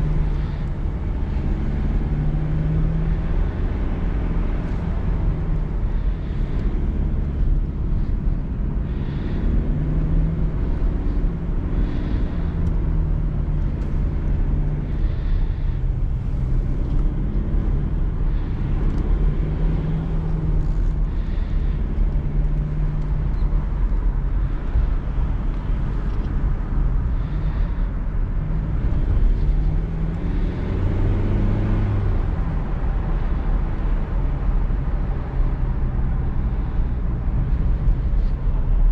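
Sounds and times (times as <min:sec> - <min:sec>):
car engine running: 0:00.0 - 0:38.9
wind and road noise: 0:00.0 - 0:38.9.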